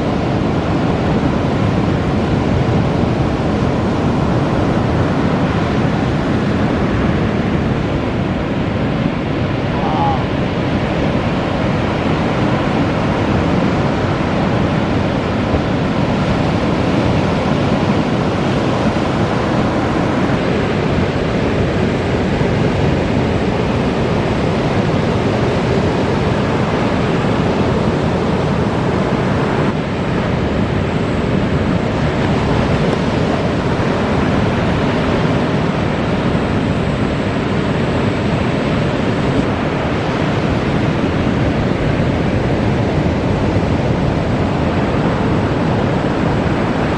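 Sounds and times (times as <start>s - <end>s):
ocean surf breaking: 0.0s - 46.9s
wind on microphone: 0.0s - 46.9s.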